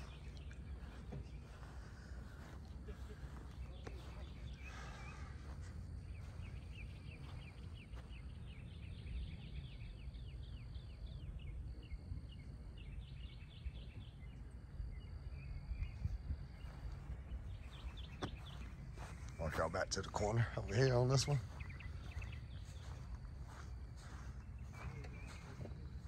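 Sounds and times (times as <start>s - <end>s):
high falling bird chirps: 0.0s - 26.0s
low steady rumble: 0.0s - 26.0s.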